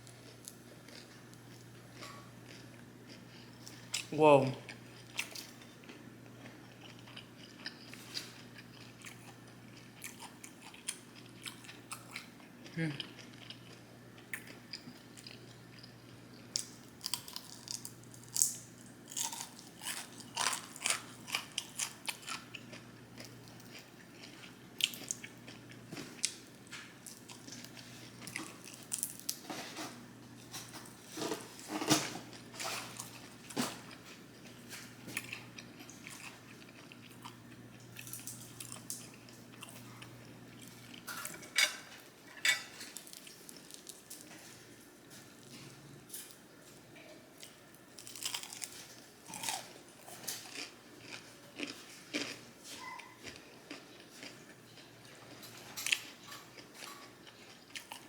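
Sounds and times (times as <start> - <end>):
person chewing and crunching food: 0.0 - 58.0.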